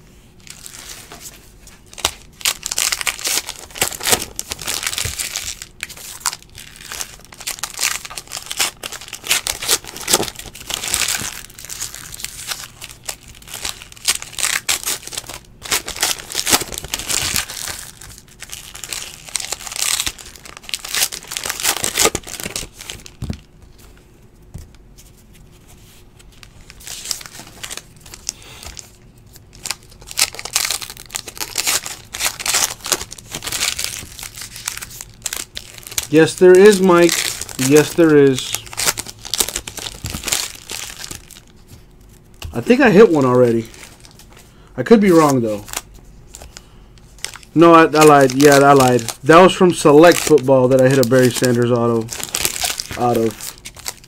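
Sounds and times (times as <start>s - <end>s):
card wrappers tearing and crinkling: 0.4s - 23.5s, 26.1s - 54.0s.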